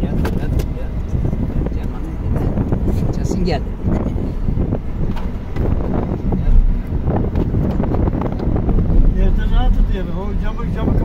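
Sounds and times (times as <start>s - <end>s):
car road rumble: 0.0s - 11.0s
wind buffeting microphone: 0.0s - 11.0s.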